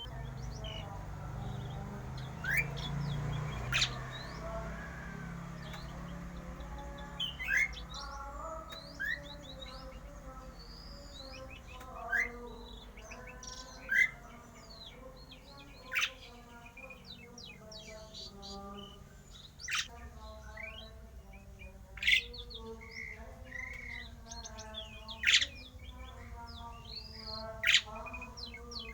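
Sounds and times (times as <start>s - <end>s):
starling singing: 0.0s - 28.9s.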